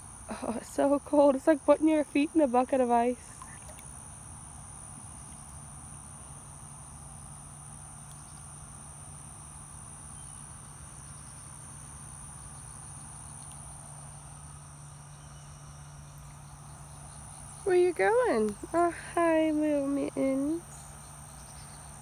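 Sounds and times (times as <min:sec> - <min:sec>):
insect chorus: 0:00.0 - 0:22.0
low steady hum: 0:00.0 - 0:22.0.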